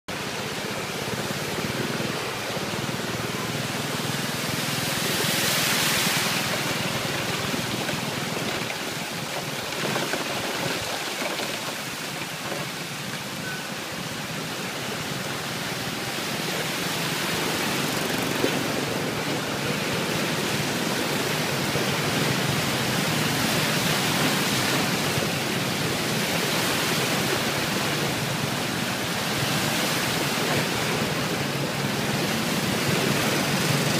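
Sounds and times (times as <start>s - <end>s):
flood water sloshing under wheels: 0.1s - 33.9s
motorcycle and car traffic: 0.1s - 33.9s.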